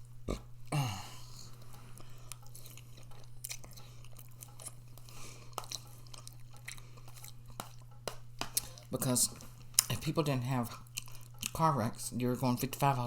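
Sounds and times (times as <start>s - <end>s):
person chewing food: 0.0s - 11.7s
steady low hum: 0.0s - 13.0s.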